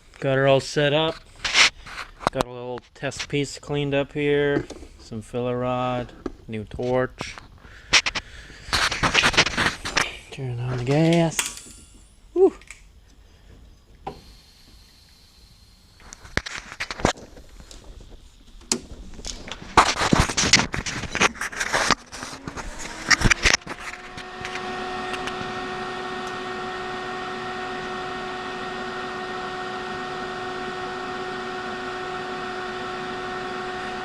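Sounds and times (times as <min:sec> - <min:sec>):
welder cooling fan hum: 0:03.1 - 0:34.0.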